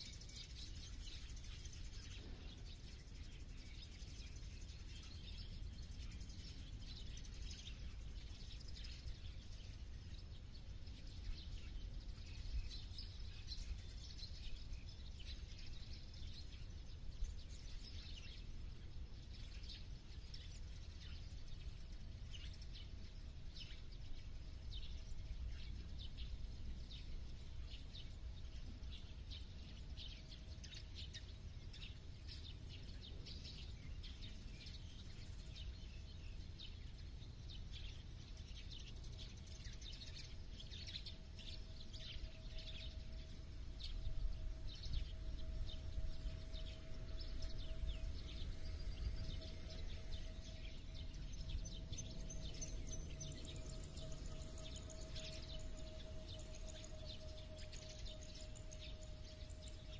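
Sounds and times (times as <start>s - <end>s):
low background rumble: 0.0s - 59.9s
songbirds chirping: 0.0s - 59.9s.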